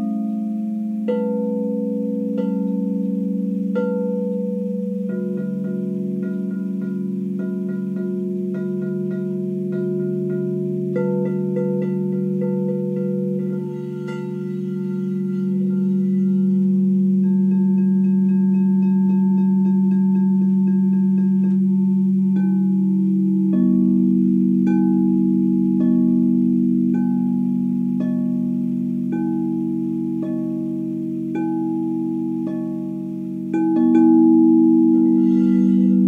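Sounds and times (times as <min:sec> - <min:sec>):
singing bowls ringing: 0:00.0 - 0:36.0.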